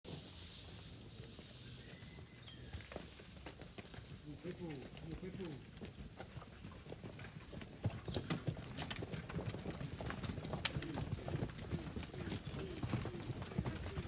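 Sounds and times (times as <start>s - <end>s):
hooves clopping on brick: 0.8s - 14.0s.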